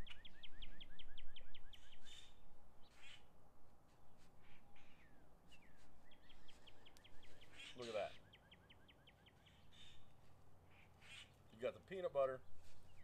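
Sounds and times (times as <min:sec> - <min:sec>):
rapid repeated bird chirps: 0:00.0 - 0:03.3, 0:04.4 - 0:13.0
birds calling faintly: 0:00.0 - 0:13.0.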